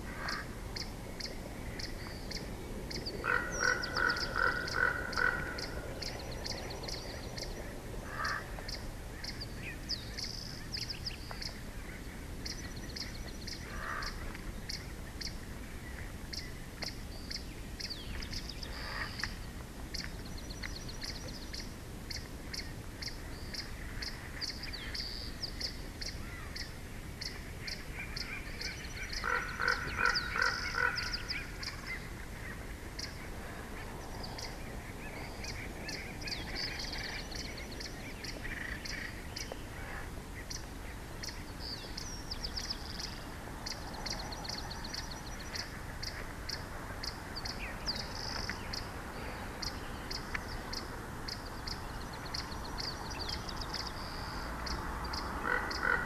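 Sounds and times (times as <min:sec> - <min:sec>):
lower bird call: 0:00.0 - 0:11.6, 0:16.3 - 0:56.0.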